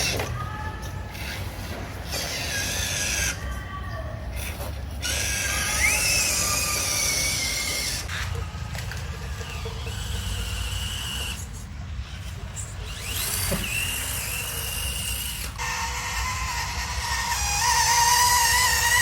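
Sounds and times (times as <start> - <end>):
small electric motor whining: 1.1 - 3.4, 4.5 - 8.4, 9.3 - 19.0.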